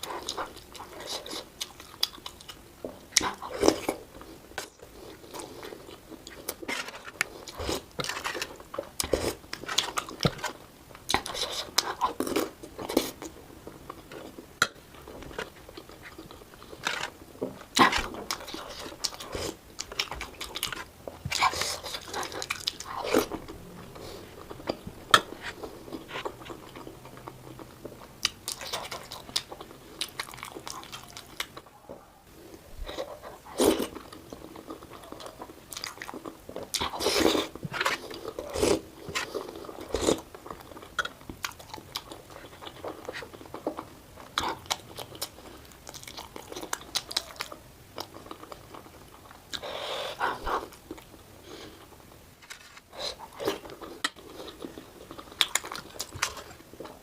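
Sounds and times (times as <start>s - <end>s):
chewing and crunchy bites: 0.0s - 31.7s, 32.8s - 57.0s.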